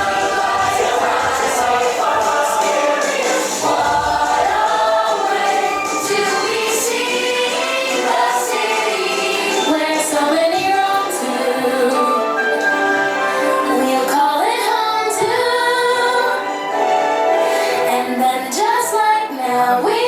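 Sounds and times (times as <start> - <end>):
instrumental music: 0.0 - 19.2
choir singing: 0.0 - 20.0.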